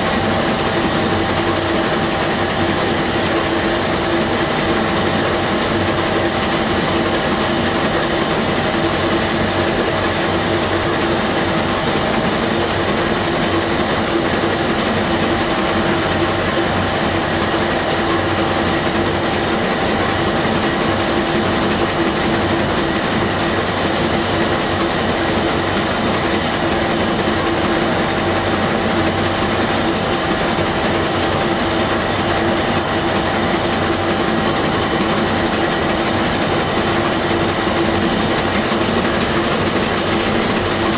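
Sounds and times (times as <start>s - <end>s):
marine diesel engine running: 0.0s - 40.9s.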